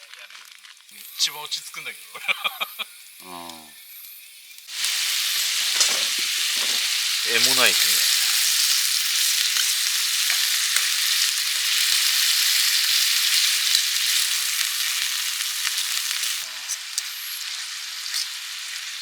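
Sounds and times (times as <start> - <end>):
fire pops and crackles: 0.0 - 1.7, 4.6 - 19.0
food sizzling over campfire: 0.0 - 19.0.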